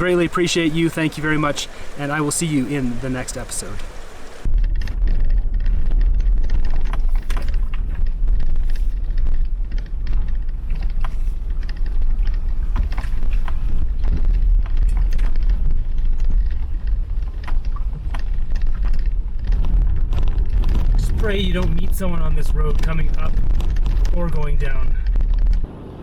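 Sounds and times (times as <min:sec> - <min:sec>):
vehicle low rumble: 0:00.0 - 0:26.0.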